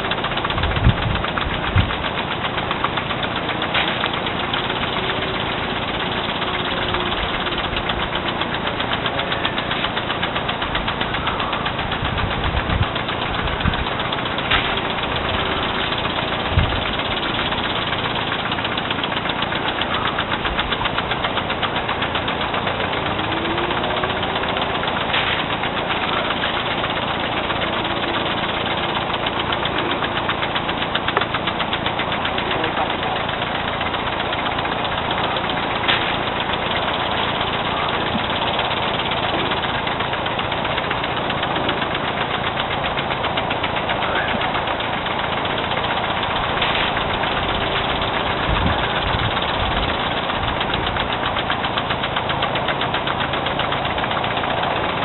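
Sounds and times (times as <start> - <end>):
lawn sprinklers ticking hiss: 0.0 - 55.0
sprinkler click: 0.0 - 55.0.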